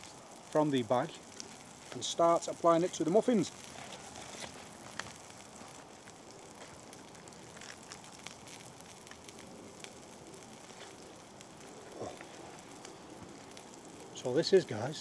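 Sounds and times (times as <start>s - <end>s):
fire pops and crackles: 0.0s - 15.0s
food sizzling in a pan: 0.0s - 15.0s.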